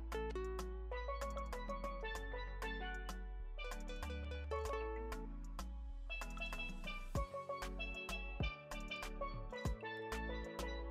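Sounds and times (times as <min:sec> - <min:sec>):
instrumental background music: 0:00.0 - 0:10.9.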